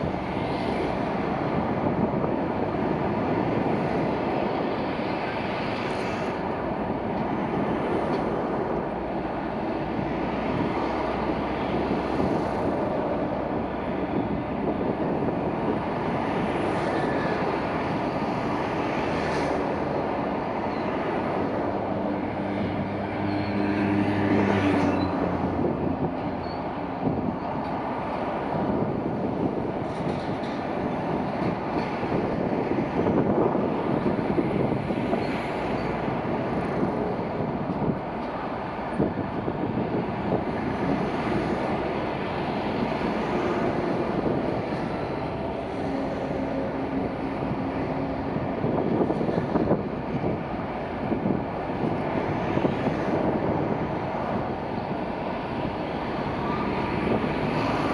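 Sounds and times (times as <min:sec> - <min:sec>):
train wheels on rails: 0:00.0 - 0:57.9.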